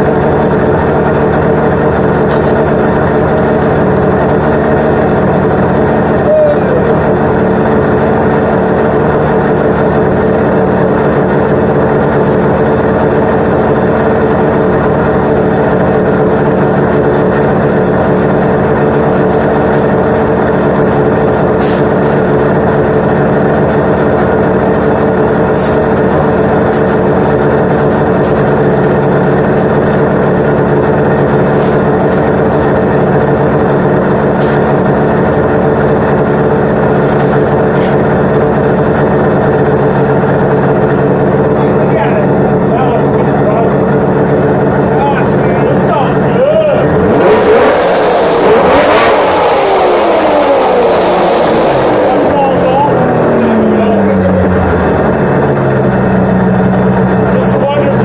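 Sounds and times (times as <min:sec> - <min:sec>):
snowmobile engine running steadily: 0:00.0 - 0:58.0.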